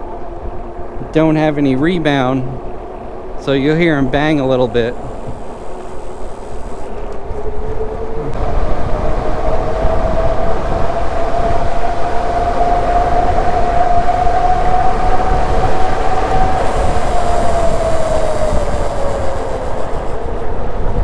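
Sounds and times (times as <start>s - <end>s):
low rumble: 2.5s - 21.0s
electric bike motor whine: 4.1s - 21.0s.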